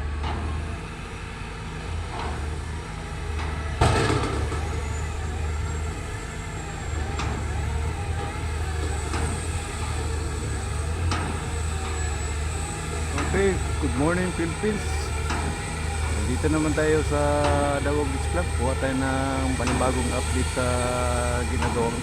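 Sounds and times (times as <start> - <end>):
construction machinery engine hum: 0.0 - 22.0.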